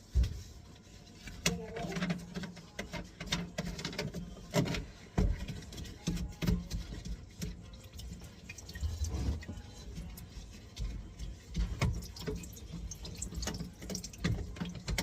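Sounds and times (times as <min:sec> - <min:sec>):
water dripping from pipes: 0:01.3 - 0:15.0.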